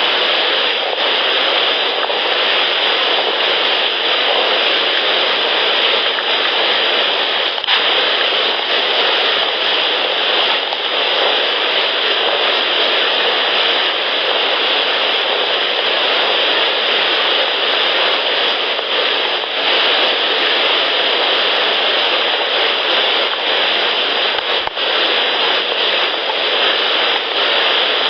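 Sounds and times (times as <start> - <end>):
outdoor background hiss: 0.0 - 28.0.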